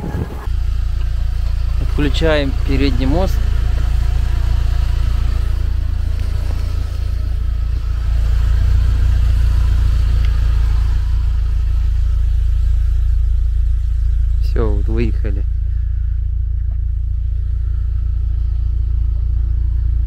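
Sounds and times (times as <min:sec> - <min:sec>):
road noise: 0:00.0 - 0:20.0
vehicle engine rumbling: 0:00.0 - 0:20.0.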